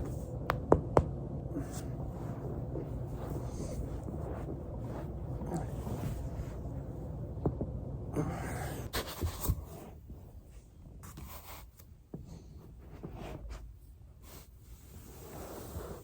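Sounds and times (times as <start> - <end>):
rubbing and shifting sounds: 1.6 - 16.0.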